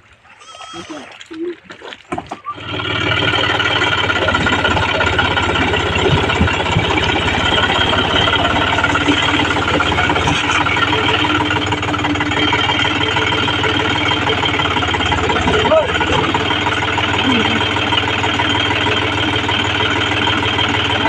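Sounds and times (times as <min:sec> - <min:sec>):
tractor diesel engine clattering: 0:02.4 - 0:21.0.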